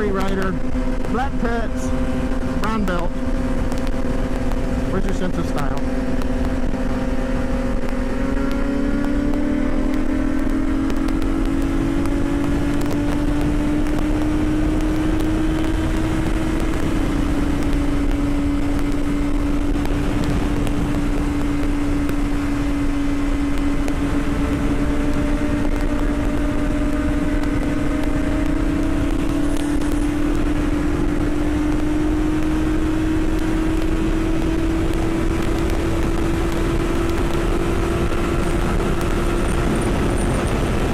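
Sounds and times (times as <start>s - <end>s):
motorcycle engine cruising: 0.0s - 40.9s
wind rush: 0.0s - 40.9s.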